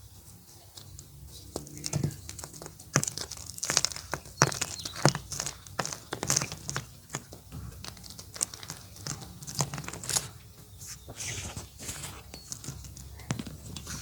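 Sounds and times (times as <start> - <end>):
chalk crumbling: 0.8 - 14.0.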